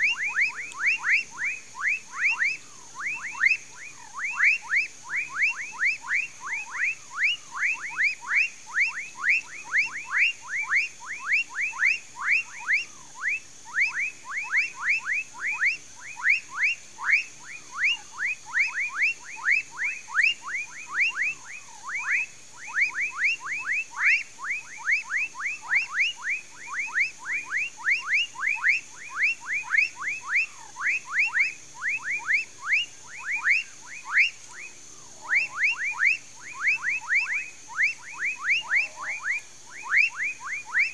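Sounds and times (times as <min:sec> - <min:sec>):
frogs calling: 0:00.0 - 0:40.9
steady high-pitched hum: 0:00.0 - 0:40.9.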